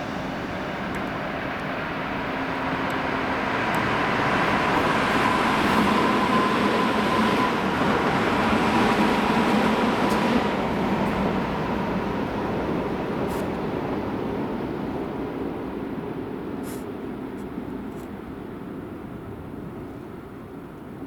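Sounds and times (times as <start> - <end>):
electric train passing on rails: 0.0 - 21.0.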